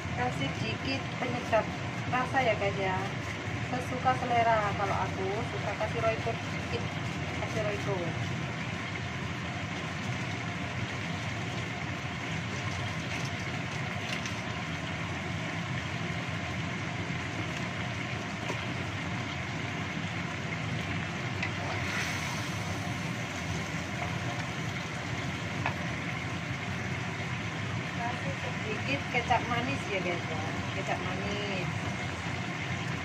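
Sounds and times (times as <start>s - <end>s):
food simmering in a wok: 0.0s - 33.0s.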